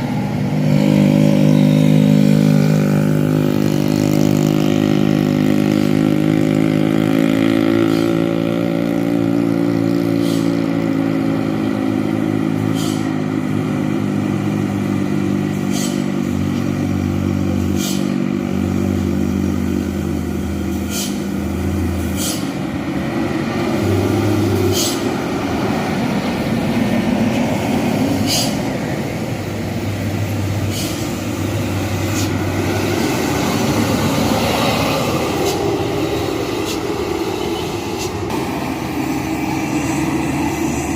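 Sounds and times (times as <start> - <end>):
diesel truck engine running: 0.0 - 40.9
road and passing traffic noise: 0.0 - 40.9.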